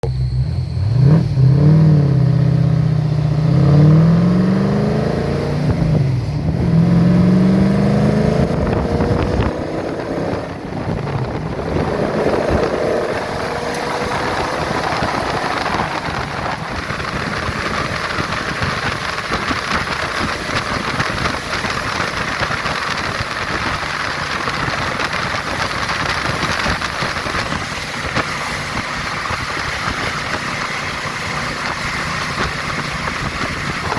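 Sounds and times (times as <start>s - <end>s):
vehicle engine accelerating: 0.0s - 33.9s
wind noise on microphone: 1.1s - 33.9s.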